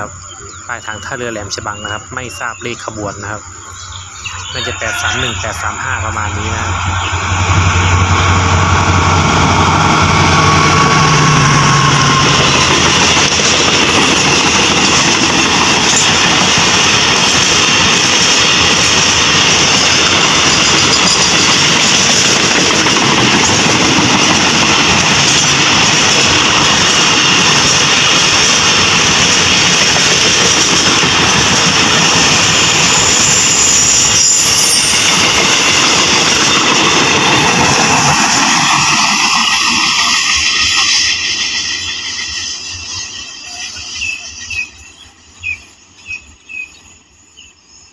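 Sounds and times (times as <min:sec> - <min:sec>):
train wheels rolling on rails: 0:00.0 - 0:47.9.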